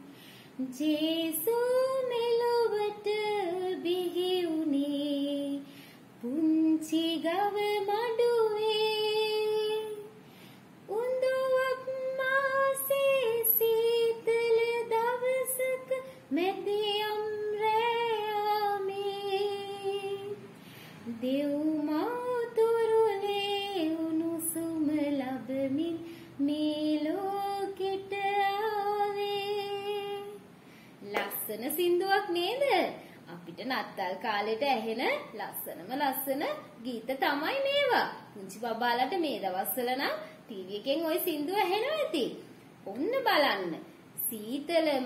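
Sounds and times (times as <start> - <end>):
woman singing unaccompanied: 0.0 - 45.0.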